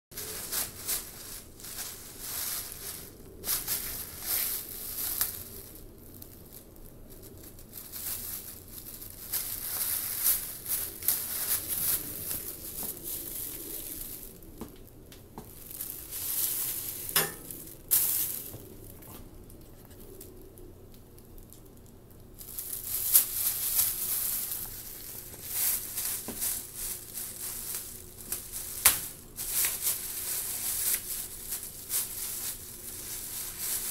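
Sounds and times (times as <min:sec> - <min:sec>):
plastic bag crinkling: 0:00.2 - 0:33.9.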